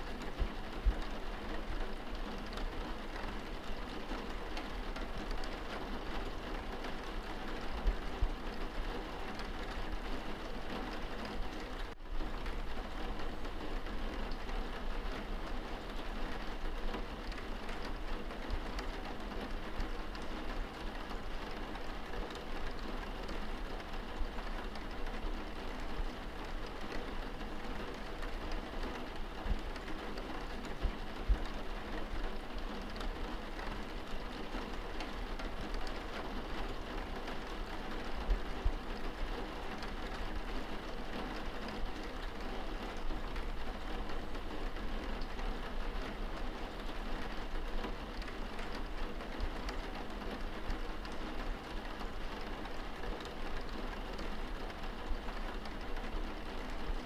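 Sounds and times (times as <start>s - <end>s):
rain on window glass: 0.0s - 57.0s
light raindrop taps: 0.2s - 57.0s.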